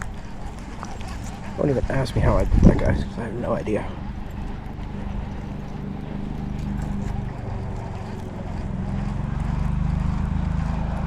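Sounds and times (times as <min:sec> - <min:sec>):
low engine hum with ticking: 0:00.0 - 0:11.0.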